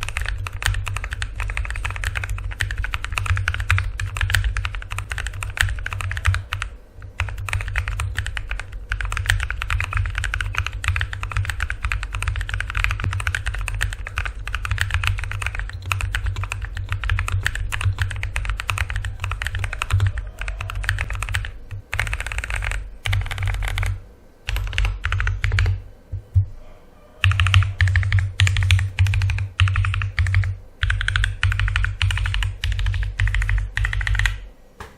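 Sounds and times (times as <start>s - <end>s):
mechanical keyboard typing: 0.0s - 25.8s, 27.2s - 34.4s.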